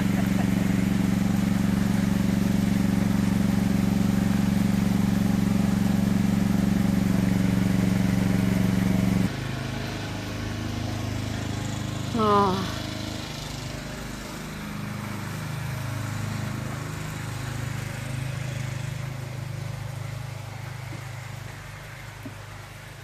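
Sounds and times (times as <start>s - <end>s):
motor drone: 0.0s - 23.0s.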